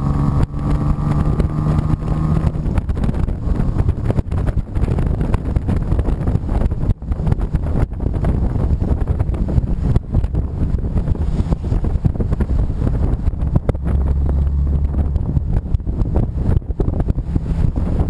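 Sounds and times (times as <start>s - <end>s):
car engine running: 0.0s - 18.0s
road rumble: 0.0s - 18.0s
wind buffeting microphone: 0.0s - 18.0s.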